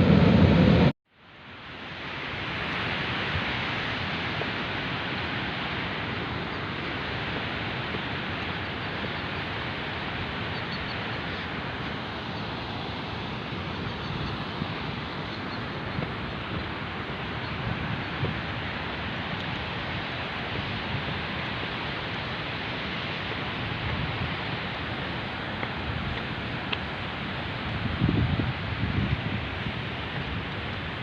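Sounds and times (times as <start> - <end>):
mountain river rushing: 0.0 - 31.0.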